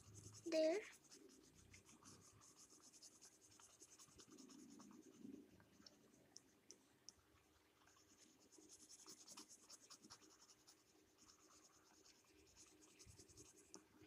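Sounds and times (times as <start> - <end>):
pencil scratching on paper: 0.0 - 6.0, 7.8 - 13.8.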